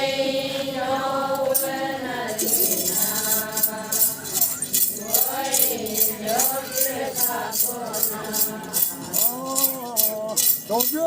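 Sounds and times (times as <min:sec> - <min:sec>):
voices singing a long note: 0:00.0 - 0:10.4
rhythmic jingling rattle: 0:01.5 - 0:11.0.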